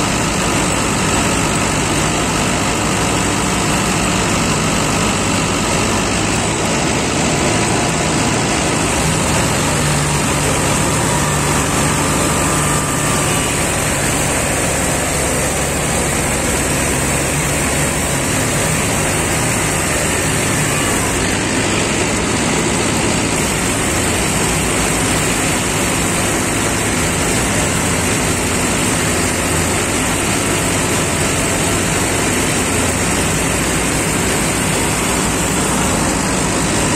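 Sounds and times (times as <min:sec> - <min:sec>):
combine harvester machinery din: 0:00.0 - 0:36.9.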